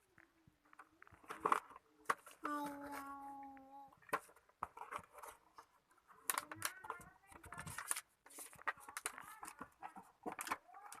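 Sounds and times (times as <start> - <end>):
packaging crinkling and rustling: 0.6 - 11.0.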